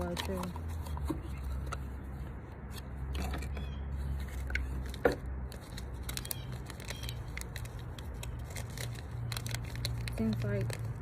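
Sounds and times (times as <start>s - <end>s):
small clicks and rustles: 0.0s - 11.0s.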